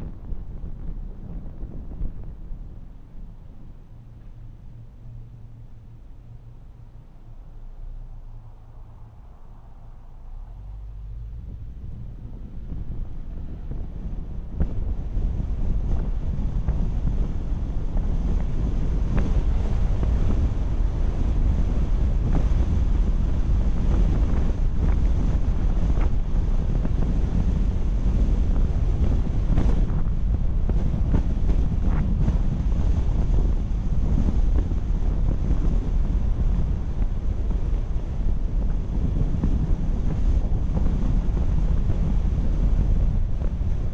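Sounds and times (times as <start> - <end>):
car road noise: 0.0 - 43.9
wind buffeting microphone: 0.0 - 43.9.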